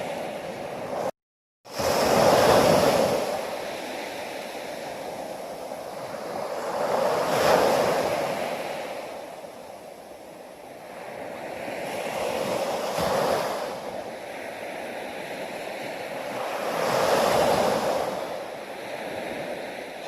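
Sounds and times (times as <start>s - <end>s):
ocean waves washing onto shore: 0.0s - 1.1s, 1.7s - 20.0s.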